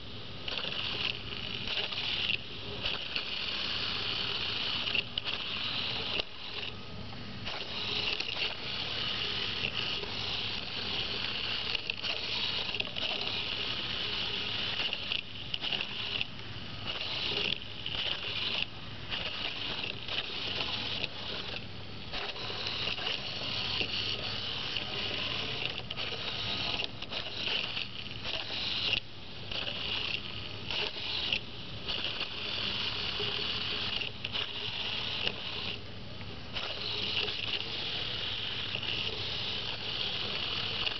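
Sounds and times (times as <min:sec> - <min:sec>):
small motors whining: 0:00.0 - 0:06.8, 0:07.4 - 0:35.8, 0:36.5 - 0:40.9.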